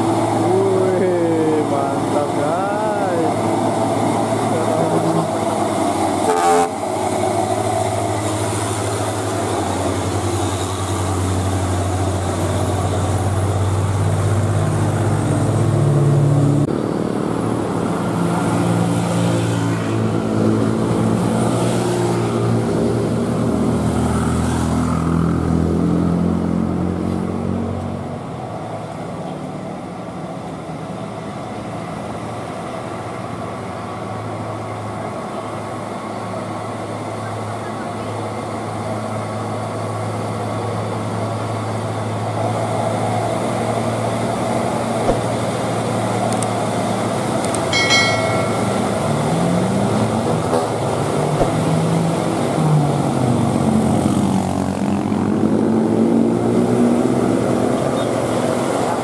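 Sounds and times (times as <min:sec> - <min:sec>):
diesel truck engines labouring: 0:00.0 - 0:59.0.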